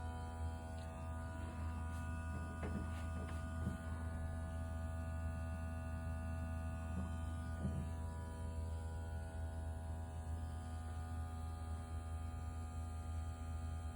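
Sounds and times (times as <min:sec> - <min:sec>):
electric pump humming: 0:00.0 - 0:13.9.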